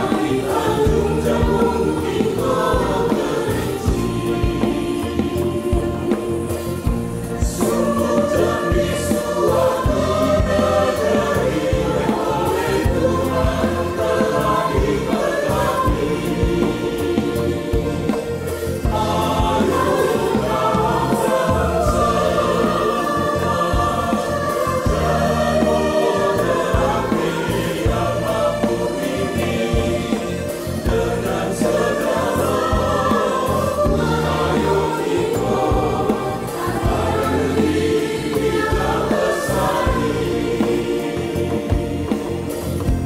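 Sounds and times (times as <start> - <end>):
mixed choir singing: 0.0 - 43.0.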